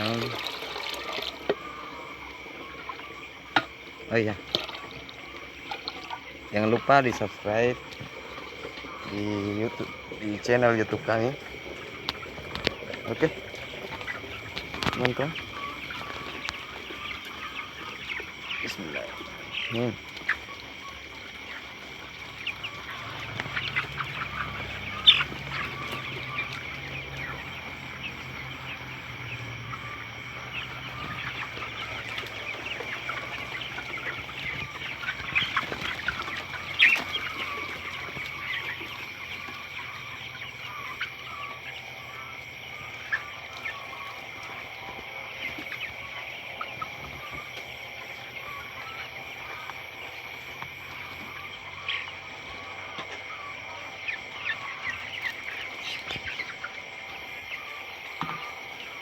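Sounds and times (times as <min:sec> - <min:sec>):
chickens clucking and peeping: 0:00.0 - 0:59.0.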